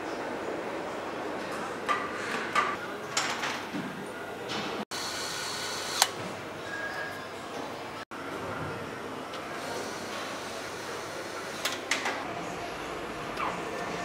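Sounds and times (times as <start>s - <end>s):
workshop background hum: 0.0s - 14.0s.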